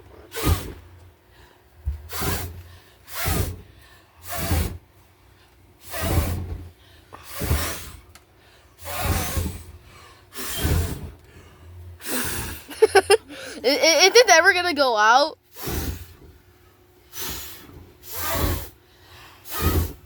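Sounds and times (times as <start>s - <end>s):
puffs of breath: 0.3s - 13.6s, 15.5s - 16.4s, 17.0s - 20.0s.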